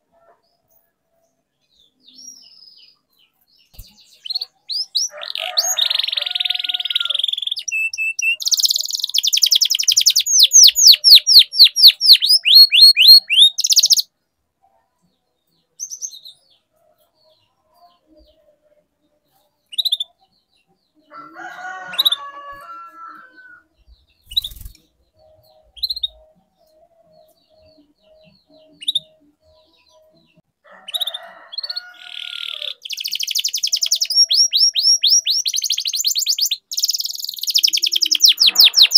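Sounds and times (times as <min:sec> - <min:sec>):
canary singing with trills: 0:00.0 - 0:14.1, 0:15.6 - 0:38.9.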